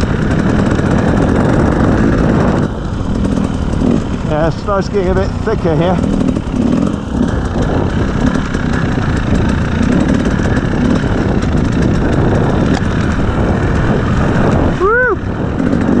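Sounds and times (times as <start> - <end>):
two-stroke motorcycle engine running: 0.0 - 16.0.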